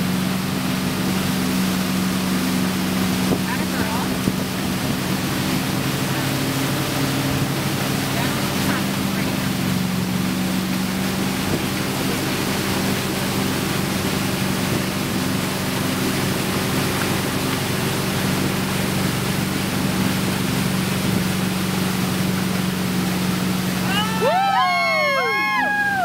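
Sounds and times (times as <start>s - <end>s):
boat engine humming: 0.0s - 26.0s
churning water: 0.0s - 26.0s.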